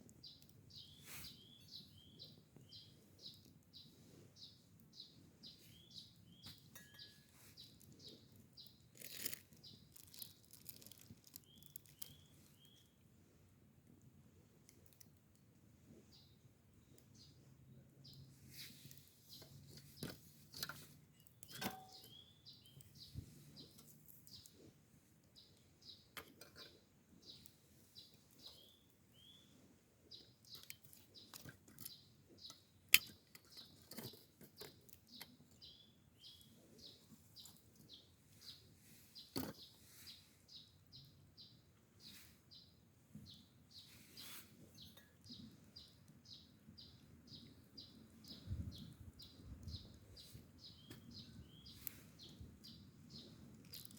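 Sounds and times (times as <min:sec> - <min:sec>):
bird chirping: 0:00.2 - 0:13.0, 0:18.0 - 0:24.6, 0:25.4 - 0:53.9.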